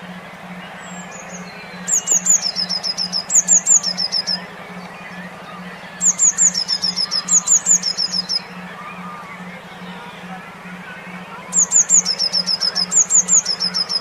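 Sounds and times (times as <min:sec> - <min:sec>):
faint bird chirps: 0:00.0 - 0:14.0
pulsing low hum: 0:00.0 - 0:14.0
songbird singing: 0:00.0 - 0:14.0.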